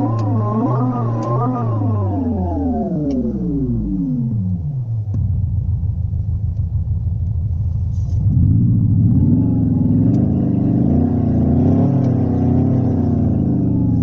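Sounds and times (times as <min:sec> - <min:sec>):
simulated engine revving: 0:00.0 - 0:05.9, 0:07.9 - 0:14.0.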